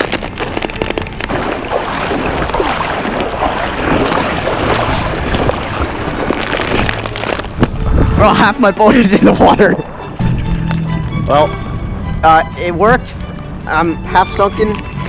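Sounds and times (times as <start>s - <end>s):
water splashing and sloshing: 0.0s - 15.0s
wind buffeting microphone: 0.0s - 15.0s.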